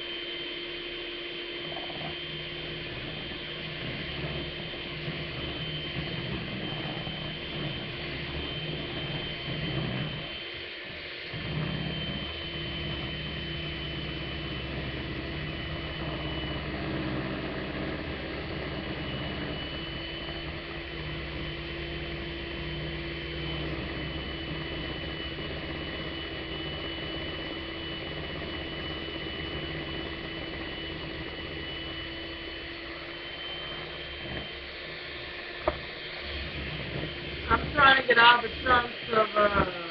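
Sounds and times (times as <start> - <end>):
electric mixer motor whine: 0.0 - 39.9.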